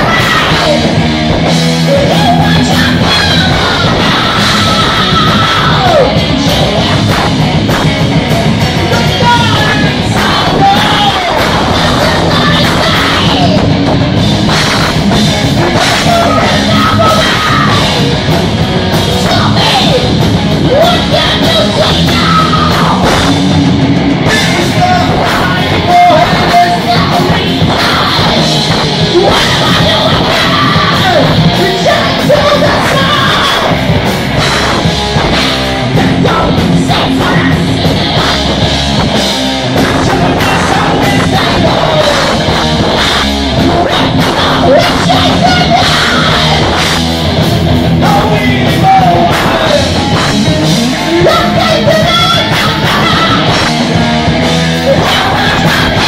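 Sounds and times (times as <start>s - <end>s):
bass guitar: 0.0s - 56.0s
drum kit: 0.0s - 56.0s
electric guitars: 0.0s - 56.0s
vocalist singing and shouting: 0.0s - 56.0s.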